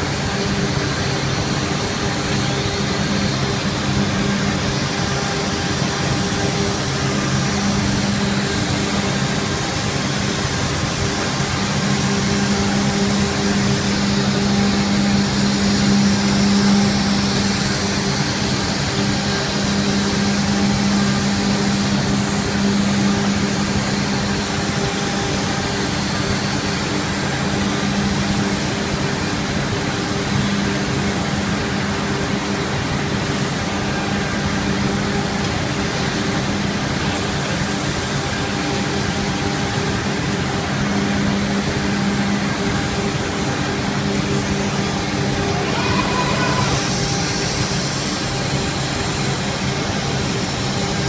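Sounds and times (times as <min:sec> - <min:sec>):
spindle motor humming: 0:00.0 - 0:51.0
hiss of cutting: 0:03.0 - 0:51.0.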